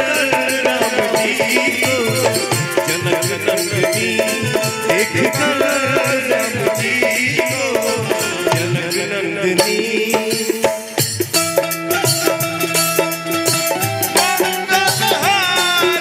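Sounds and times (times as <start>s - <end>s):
live band devotional music: 0.0s - 16.0s
quick percussion beat: 0.0s - 16.0s.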